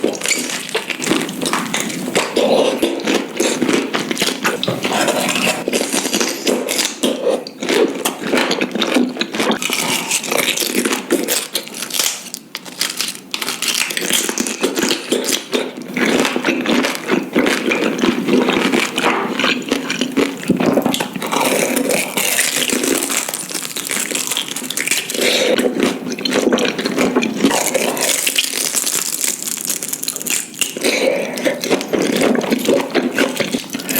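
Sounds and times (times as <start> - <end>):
wet chewing: 0.0 - 33.9.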